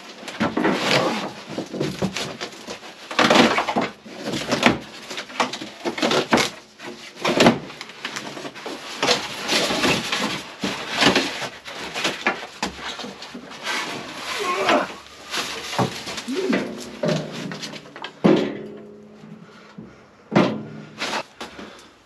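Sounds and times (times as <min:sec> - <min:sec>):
cardboard and plastic wrap rustling: 0:00.0 - 0:18.5.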